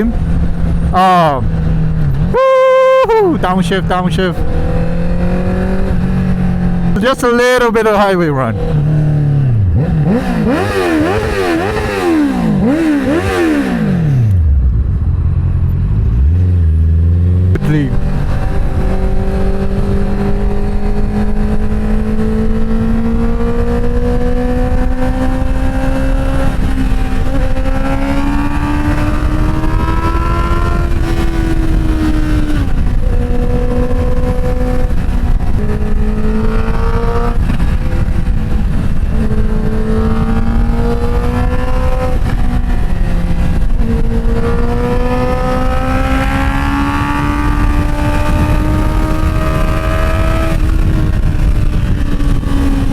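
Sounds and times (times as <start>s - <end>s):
motorcycle engine running: 8.5s - 52.9s
wind rush: 8.5s - 52.9s.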